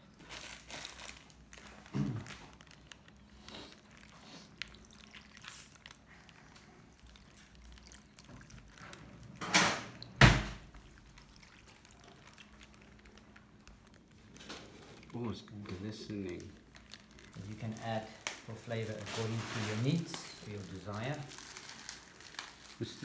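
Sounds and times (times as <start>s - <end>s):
liquid pouring splashes: 0.0s - 23.0s.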